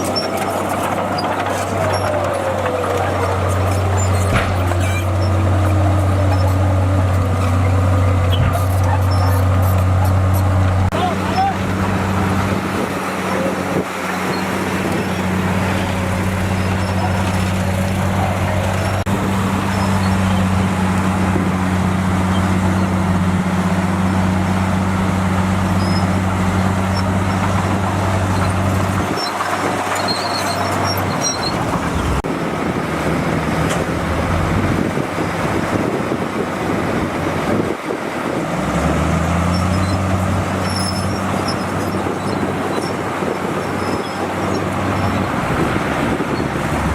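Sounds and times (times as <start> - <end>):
bulldozer diesel engine droning: 0.0 - 46.9
continuous rumbling: 0.0 - 46.9.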